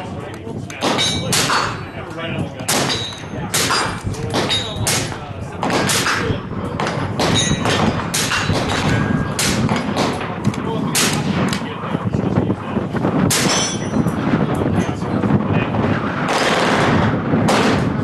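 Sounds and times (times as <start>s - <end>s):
gunshots on a shooting range: 0.7s - 12.0s, 13.0s - 18.0s.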